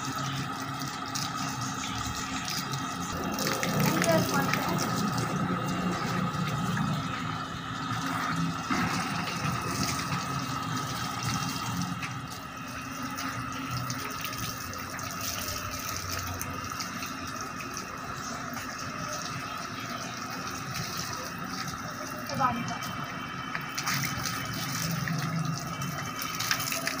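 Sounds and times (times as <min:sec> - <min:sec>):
water splashing from a hose: 0:00.0 - 0:27.0.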